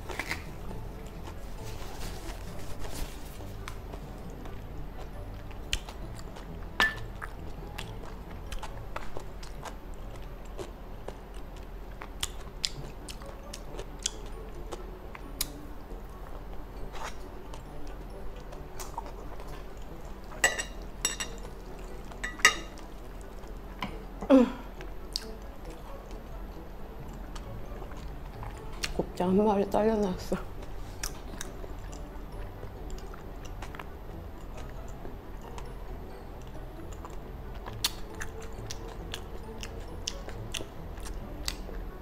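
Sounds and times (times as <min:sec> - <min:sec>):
person chewing food: 0:00.0 - 0:29.2, 0:30.5 - 0:42.0.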